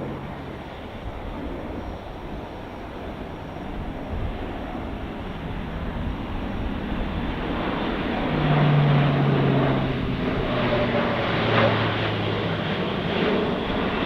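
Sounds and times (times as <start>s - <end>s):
turboprop aircraft flypast: 0.0s - 14.0s.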